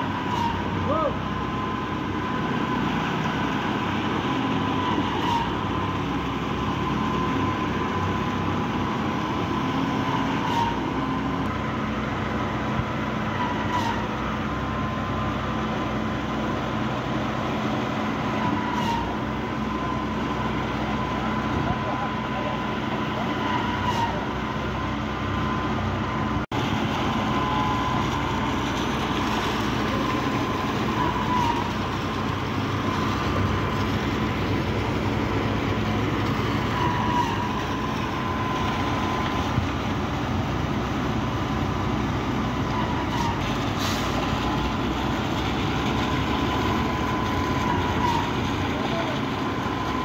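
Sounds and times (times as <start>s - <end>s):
concrete pump truck running: 0.0s - 50.0s.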